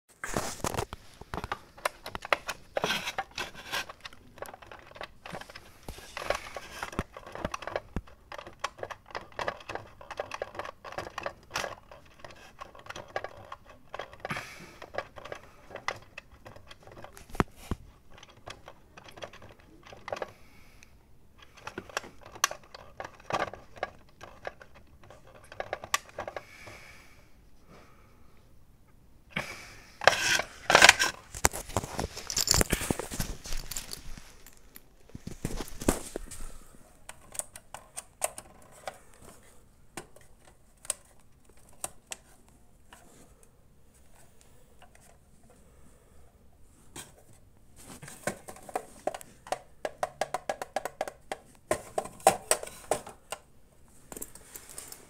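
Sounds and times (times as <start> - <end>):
plastic clock handling noise: 0.3 - 20.4, 21.4 - 26.4, 30.0 - 34.0, 35.0 - 43.4, 47.0 - 53.5.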